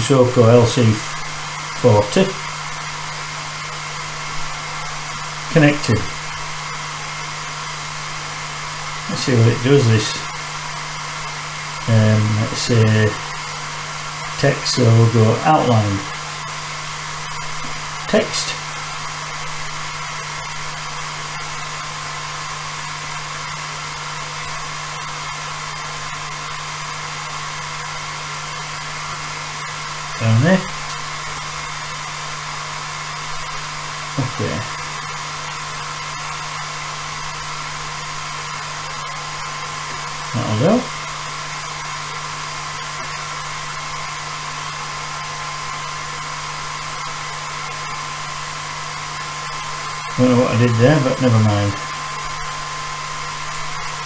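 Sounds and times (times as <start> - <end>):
cooling fan whoosh and hum: 0.0 - 54.0.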